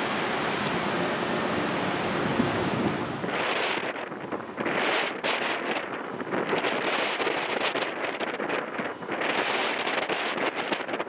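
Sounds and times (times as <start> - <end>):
rush of sea and air: 0.0 - 11.0
wind buffeting microphone: 0.0 - 11.0.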